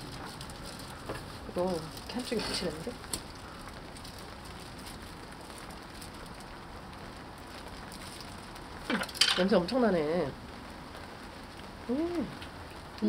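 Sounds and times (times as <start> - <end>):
steady rain patter: 0.0 - 13.0.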